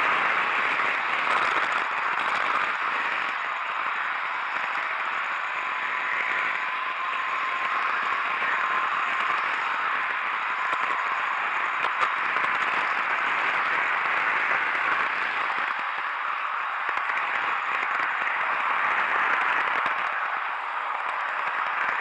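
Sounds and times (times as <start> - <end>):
model train wheels rushing on rail: 0.0 - 22.0.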